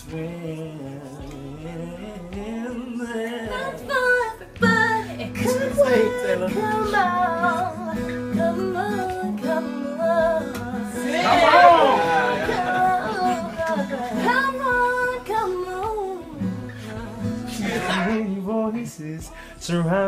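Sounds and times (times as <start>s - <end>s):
man singing softly: 0.0s - 4.7s, 5.3s - 8.0s, 9.5s - 14.9s, 15.8s - 20.0s
guitar chords: 0.0s - 20.0s
woman singing: 0.0s - 20.0s.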